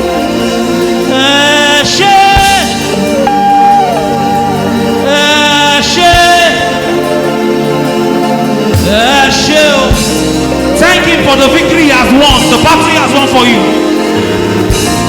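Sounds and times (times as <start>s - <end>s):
band backing: 0.0s - 15.0s
gospel singing voice: 0.0s - 15.0s.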